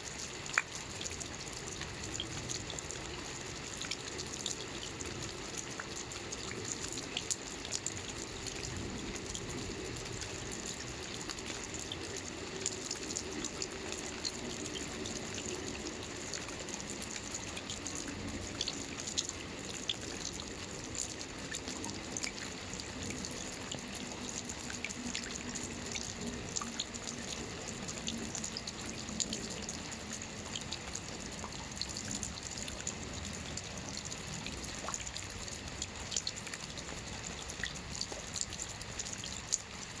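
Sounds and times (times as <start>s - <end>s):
rain on a roof: 0.0s - 40.0s
raindrop ticks: 0.2s - 39.8s.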